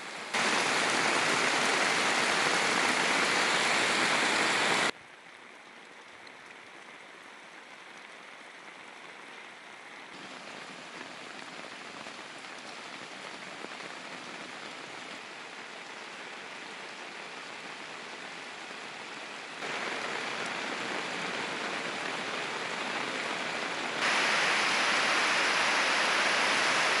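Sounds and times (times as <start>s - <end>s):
heavy rain pouring on street: 0.0s - 27.0s.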